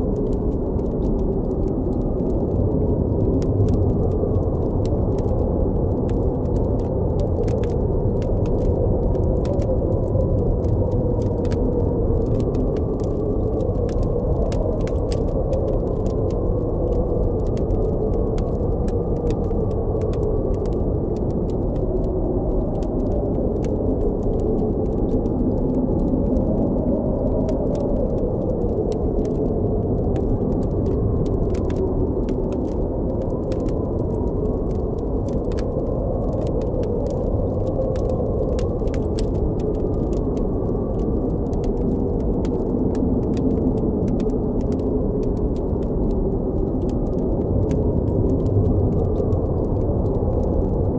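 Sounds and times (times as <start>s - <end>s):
campfire crackling: 0.0s - 50.9s
wind howling: 0.0s - 50.9s.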